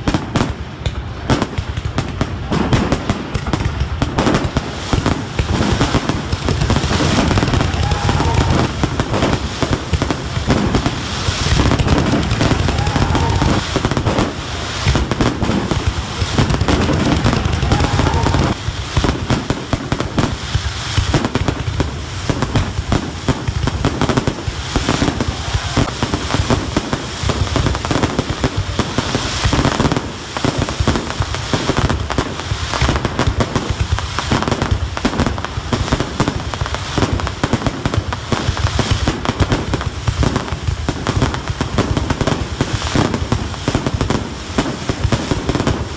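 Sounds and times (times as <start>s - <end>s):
fireworks bangs and booms: 0.0s - 45.9s
fireworks crackling: 0.0s - 45.9s.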